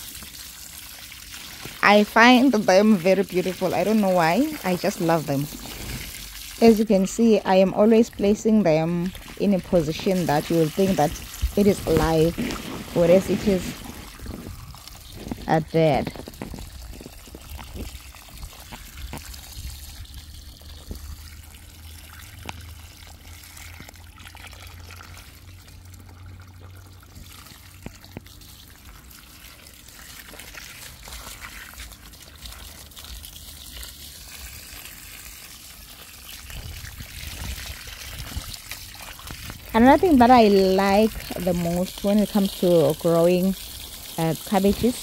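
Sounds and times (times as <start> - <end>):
water pouring from garden hose: 0.0 - 45.0.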